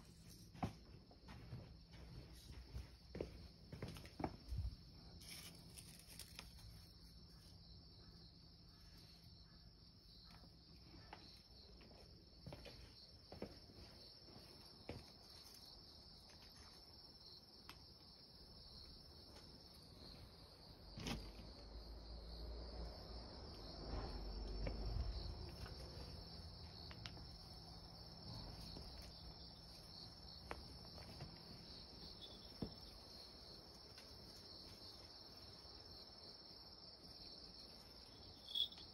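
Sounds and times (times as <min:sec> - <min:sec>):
insects trilling: 0:05.0 - 0:38.9.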